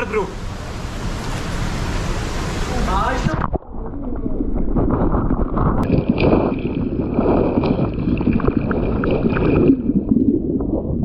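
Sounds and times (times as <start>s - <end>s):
muffled water sloshing and bubbling: 0.4s - 11.0s.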